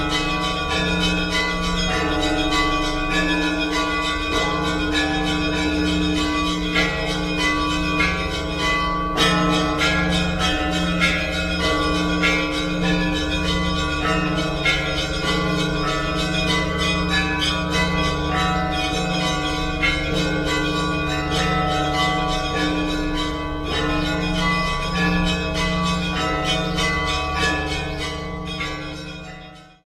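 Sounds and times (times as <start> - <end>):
deep pulsing bass bell: 0.0 - 29.8.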